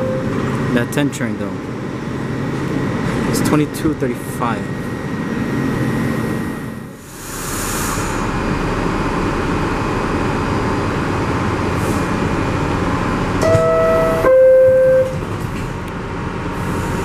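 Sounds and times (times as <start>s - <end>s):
subway train rumbling and hissing: 0.0s - 17.0s.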